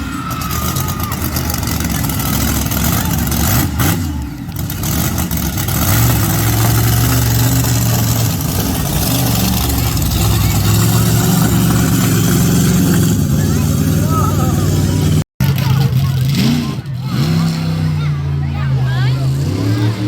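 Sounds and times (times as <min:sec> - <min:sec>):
monster truck engine running: 0:00.0 - 0:20.0.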